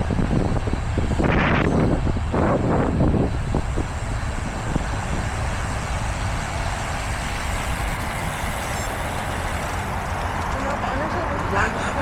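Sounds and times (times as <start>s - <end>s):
road traffic: 0.0s - 12.0s
wind rumble: 0.0s - 12.0s.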